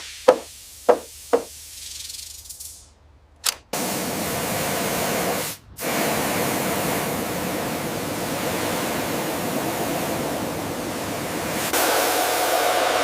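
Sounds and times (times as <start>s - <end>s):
hissing spray: 0.0s - 2.9s, 3.7s - 13.0s.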